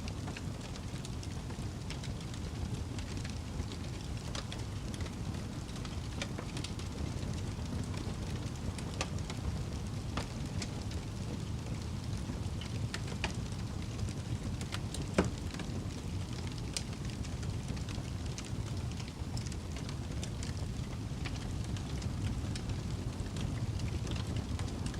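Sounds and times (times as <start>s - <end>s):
wood fire crackling: 0.0s - 24.9s
fire pops and snaps: 0.1s - 24.9s.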